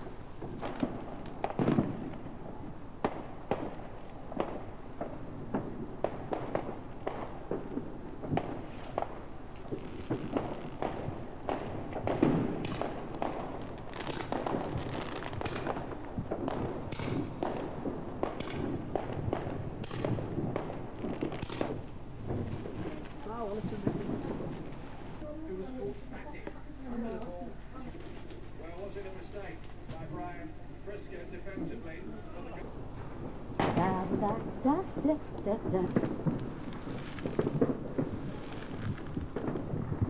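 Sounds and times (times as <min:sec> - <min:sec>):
fireworks cracking and popping: 0:00.0 - 0:25.3, 0:32.6 - 0:40.0.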